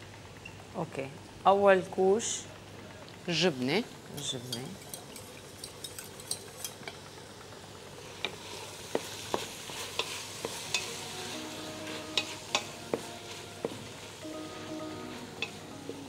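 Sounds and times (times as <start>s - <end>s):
sauce sizzling: 2.6s - 16.0s.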